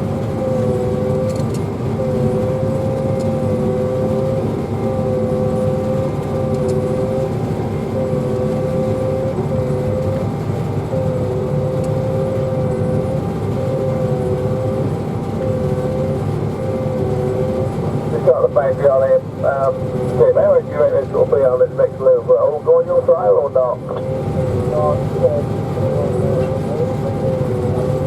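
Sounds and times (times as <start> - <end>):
machine engine low rumble: 0.0 - 28.0
machine whine: 0.0 - 28.0.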